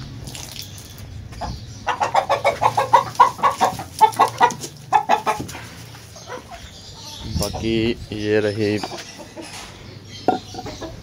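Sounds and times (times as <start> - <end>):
hen clucking: 1.3 - 11.0.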